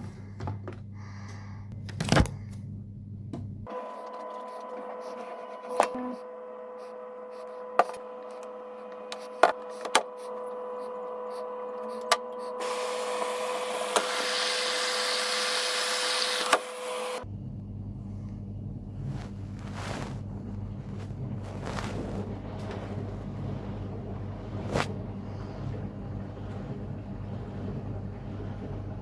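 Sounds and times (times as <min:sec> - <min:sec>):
washing machine humming: 0:00.0 - 0:29.0.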